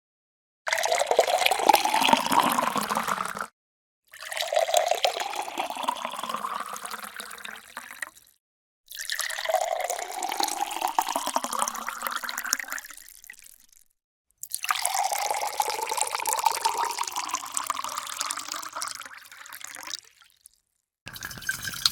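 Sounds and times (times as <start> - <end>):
water pouring into a glass: 0.7 - 3.5, 4.1 - 13.8, 14.4 - 21.9.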